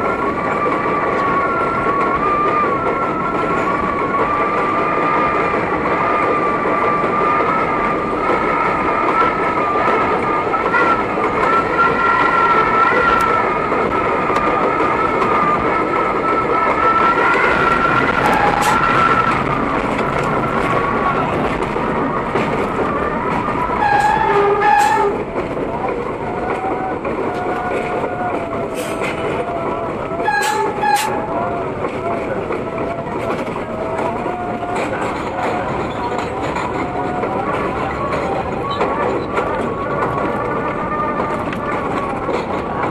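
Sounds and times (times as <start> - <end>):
subway train rumbling: 0.0 - 42.9.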